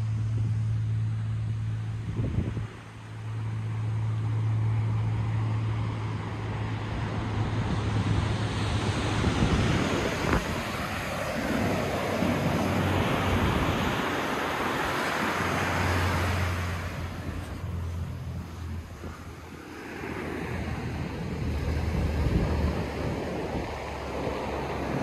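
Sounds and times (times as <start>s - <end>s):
wind rumbling on microphone: 0.0s - 25.0s
ocean surf breaking on beach: 5.0s - 25.0s.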